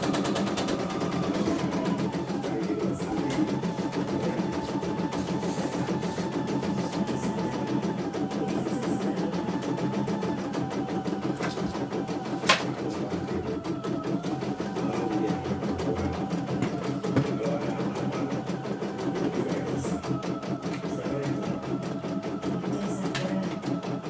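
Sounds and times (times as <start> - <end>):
embroidery machine stitching: 0.0 - 24.0.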